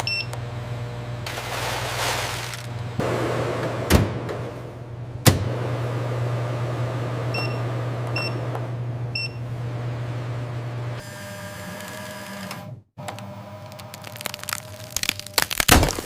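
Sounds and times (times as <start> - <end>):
packaging machinery humming: 0.0 - 16.0.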